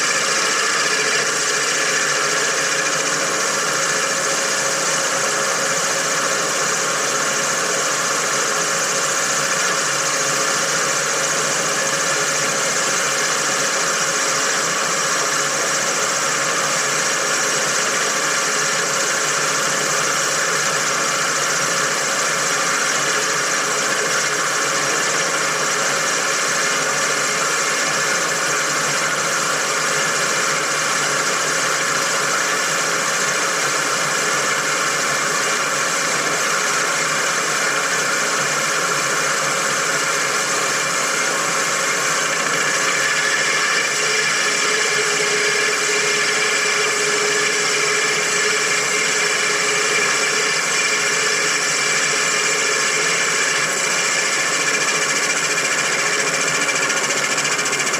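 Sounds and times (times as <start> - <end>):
lathe boring metal: 0.0 - 57.9.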